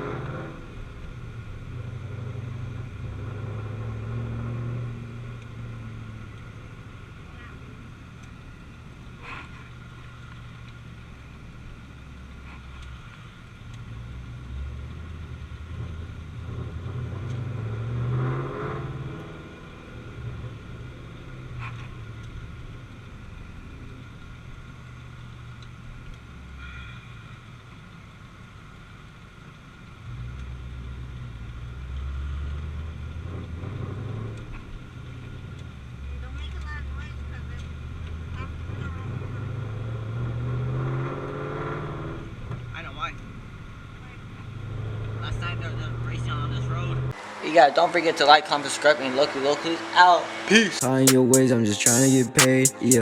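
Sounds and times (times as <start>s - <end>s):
car exhaust droning and revving: 0.0s - 53.0s.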